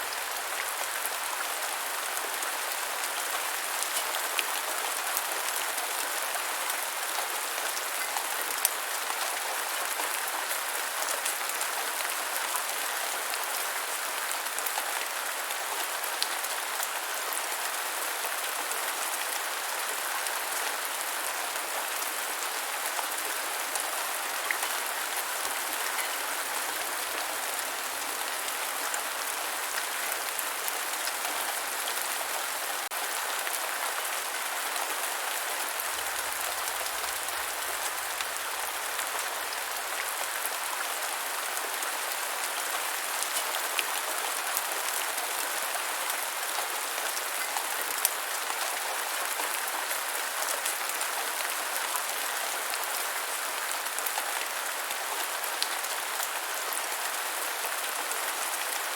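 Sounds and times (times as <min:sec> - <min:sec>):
rain on hard surface: 0:00.0 - 0:58.9.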